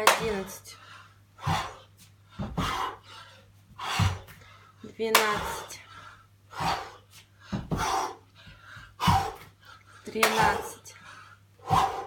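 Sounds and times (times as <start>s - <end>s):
man panting hard: 0.6s - 4.8s, 5.4s - 12.0s.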